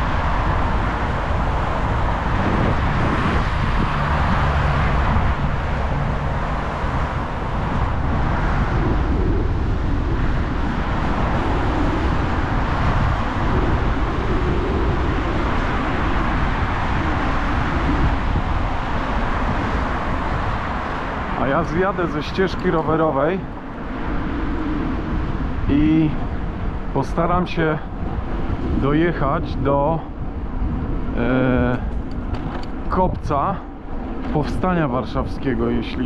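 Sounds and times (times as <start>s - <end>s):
city road traffic: 0.0s - 36.0s
wind rumbling on microphone: 0.0s - 36.0s.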